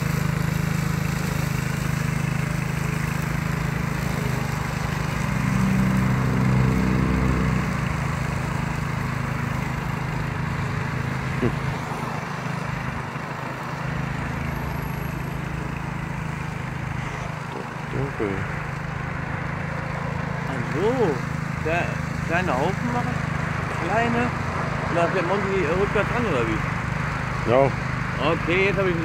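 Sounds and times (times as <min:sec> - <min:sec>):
lawn mower engine running: 0:00.0 - 0:29.0.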